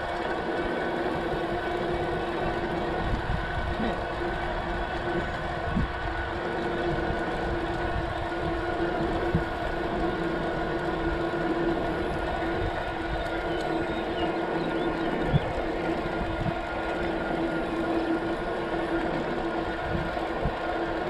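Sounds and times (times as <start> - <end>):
steady multi-pitched drone: 0.0 - 21.0
wind: 0.0 - 21.0.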